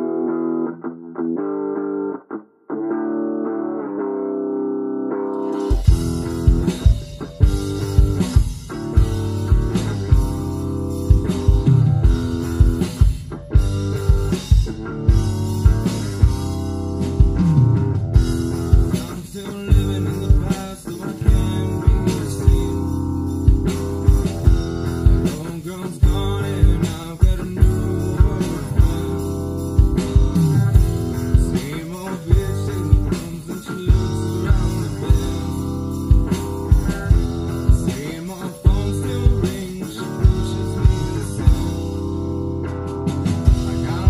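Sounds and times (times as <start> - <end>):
electric guitar: 0.0 - 44.0
bass guitar: 5.1 - 44.0
drums beating: 5.6 - 44.0.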